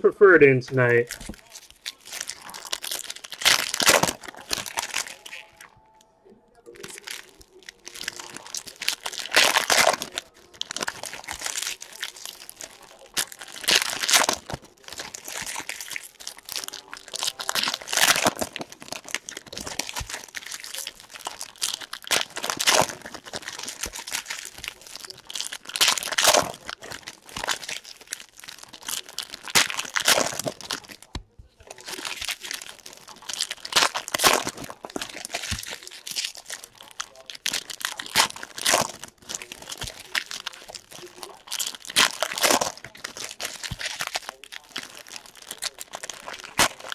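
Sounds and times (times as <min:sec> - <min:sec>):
foil wrappers crinkling: 0:00.0 - 0:46.9.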